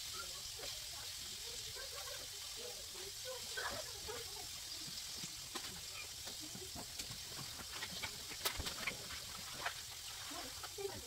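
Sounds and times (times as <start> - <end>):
meatballs sizzling in a pan: 0.0 - 11.0
pops and clicks of frying: 0.0 - 11.0.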